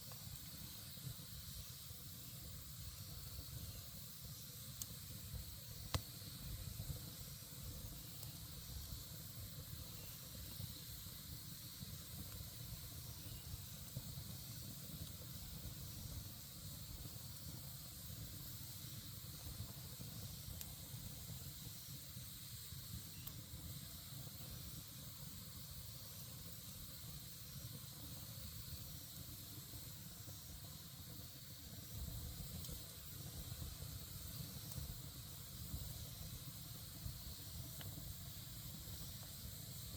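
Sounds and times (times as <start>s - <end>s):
campfire flames hissing: 0.0s - 39.9s
fire crackle: 0.0s - 39.9s.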